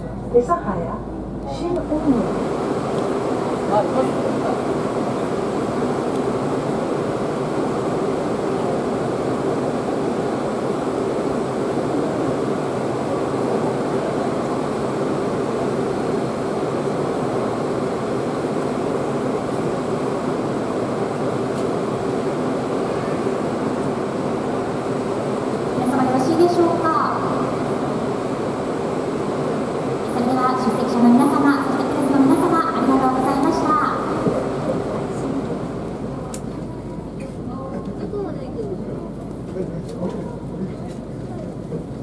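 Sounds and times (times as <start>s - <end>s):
air-conditioning running: 0.0s - 42.0s
train mechanical drone: 0.0s - 42.0s.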